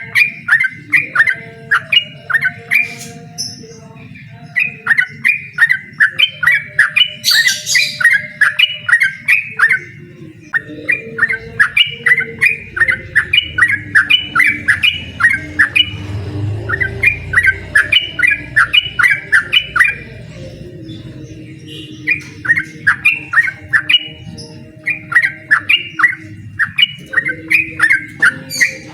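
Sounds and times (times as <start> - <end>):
bird calling in sharp notes: 0.0 - 28.9.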